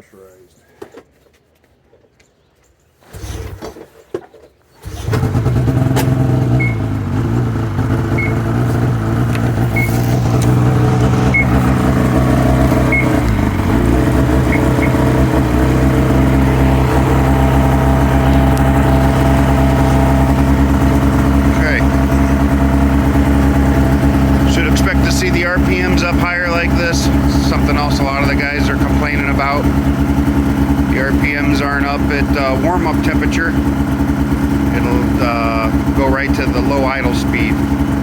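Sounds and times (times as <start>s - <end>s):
recoil starter pulls: 4.8s - 38.0s
snowmobile engine idling: 4.8s - 38.0s.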